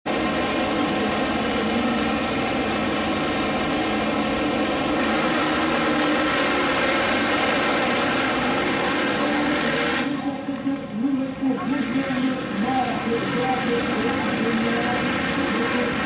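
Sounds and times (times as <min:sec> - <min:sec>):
motorcycle engines running together: 0:00.1 - 0:10.7, 0:11.4 - 0:16.0.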